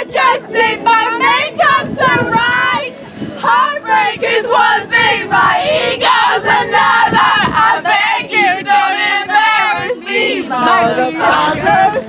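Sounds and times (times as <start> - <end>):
group singing pop song: 0.0 - 12.0.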